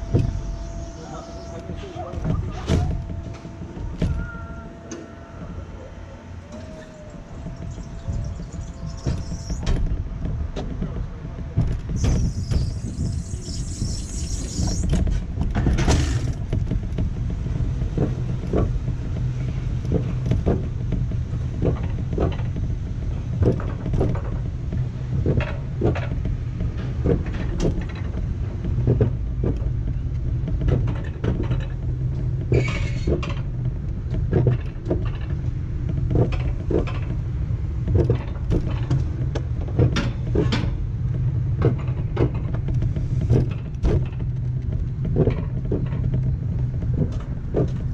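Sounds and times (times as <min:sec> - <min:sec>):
coaster wheels rumbling on track: 0:00.0 - 0:47.9
sharp clicks and knocks: 0:06.5 - 0:47.9.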